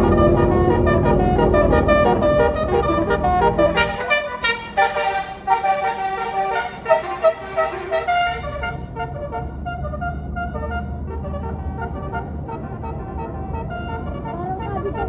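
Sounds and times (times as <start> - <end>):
musical air horn tune: 0.0 - 14.3
low engine rumble: 0.0 - 15.0.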